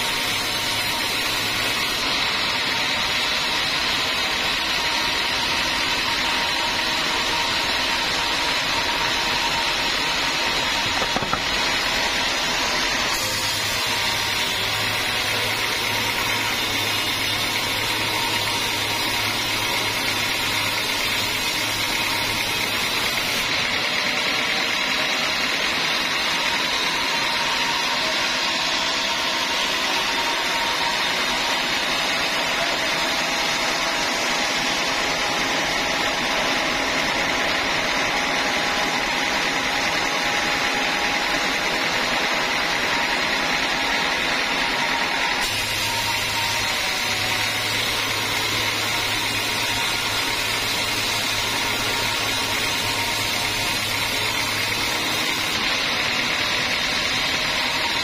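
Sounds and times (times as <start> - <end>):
band sawmill sawing log: 0.0 - 58.0.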